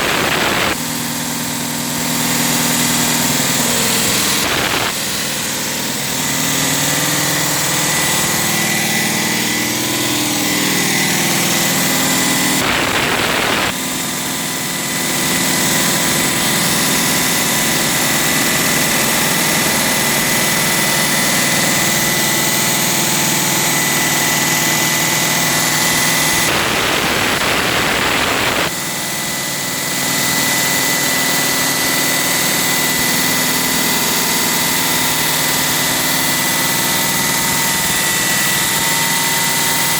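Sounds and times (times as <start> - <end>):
concrete cutter engine whining: 0.0 - 39.9
harsh gritty cutting noise: 0.0 - 39.9.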